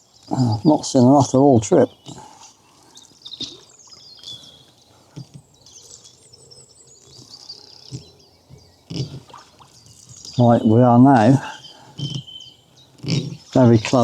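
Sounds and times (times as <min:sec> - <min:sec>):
small birds singing: 0:00.0 - 0:14.0.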